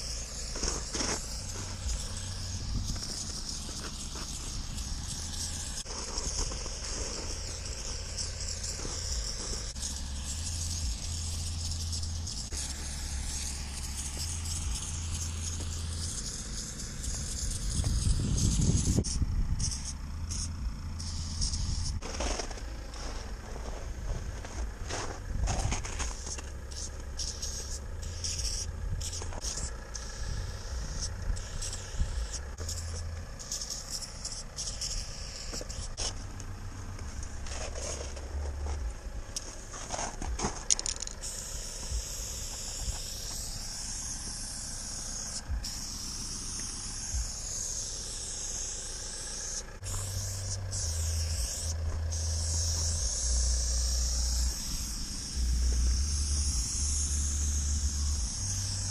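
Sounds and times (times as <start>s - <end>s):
low rumble: 0.0s - 58.9s
spray paint can hissing: 0.0s - 58.9s.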